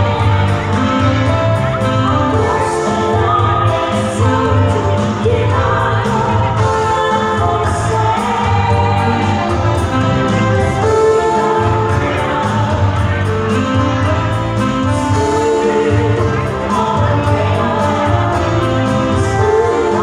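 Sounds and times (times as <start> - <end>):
live band playing: 0.0 - 20.0
vocalists singing: 0.0 - 20.0.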